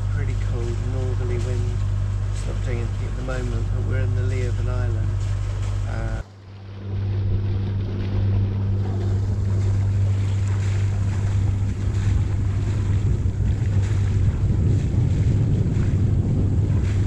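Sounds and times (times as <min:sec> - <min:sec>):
steady low hum: 0:00.0 - 0:17.0
water rushing past hull: 0:00.0 - 0:17.0
wind on microphone: 0:00.0 - 0:17.0.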